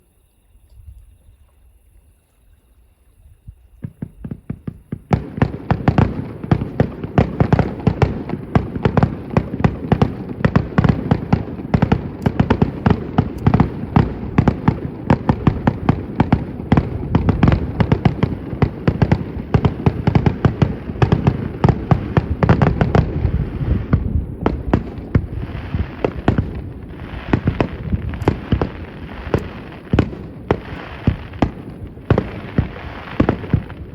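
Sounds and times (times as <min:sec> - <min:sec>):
distant fireworks bursting: 0:03.7 - 0:33.9.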